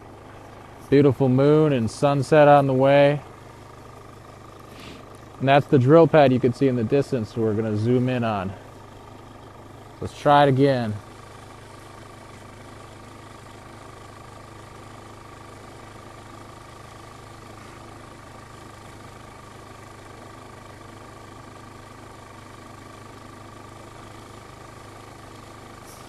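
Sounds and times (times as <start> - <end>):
steady mechanical hum and hiss: 0.0 - 26.0.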